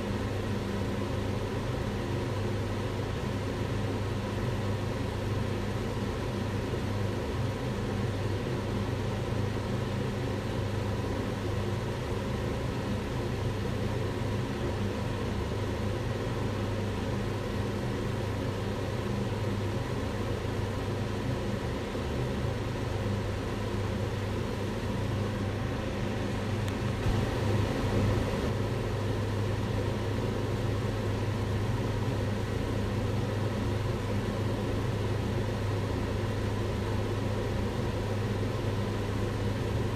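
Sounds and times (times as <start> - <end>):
extractor hood fan running: 0.0 - 39.9.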